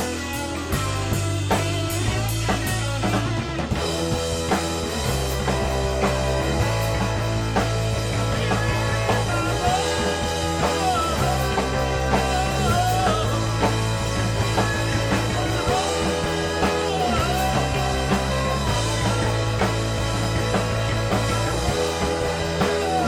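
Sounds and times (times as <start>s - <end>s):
held bass notes: 0.0s - 23.0s
lead melody with bending notes: 0.0s - 23.0s
rock band playing: 0.0s - 23.0s.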